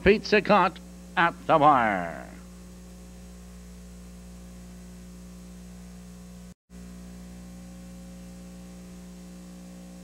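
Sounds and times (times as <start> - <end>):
electrical mains hum with hiss: 0.0 - 10.0.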